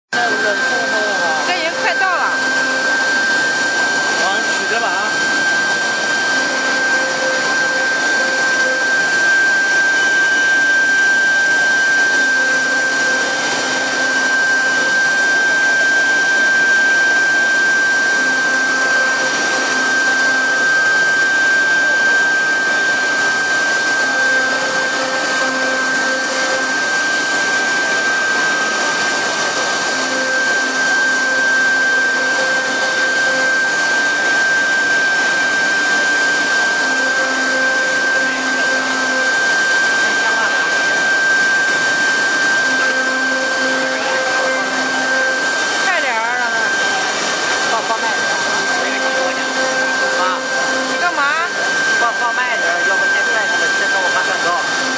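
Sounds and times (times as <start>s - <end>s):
router spindle whine: 0.0s - 54.9s
low machine hum: 0.1s - 54.9s.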